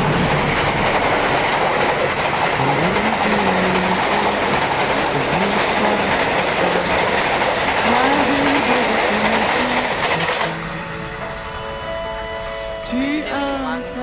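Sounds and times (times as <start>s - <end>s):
song melody: 0.0s - 14.0s
train rumble and wheel clatter: 0.0s - 14.0s.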